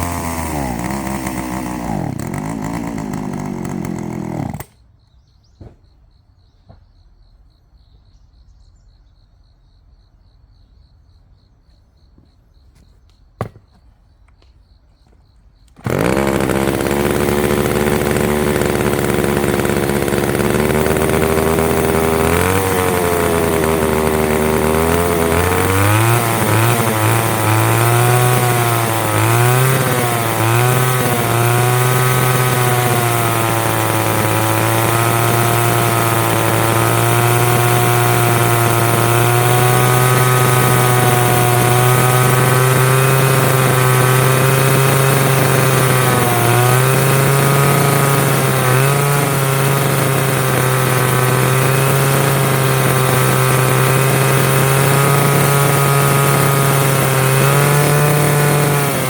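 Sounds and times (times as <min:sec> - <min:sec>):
chainsaw cutting wood: 0:00.0 - 0:04.8, 0:13.4 - 0:13.8, 0:15.7 - 0:59.0.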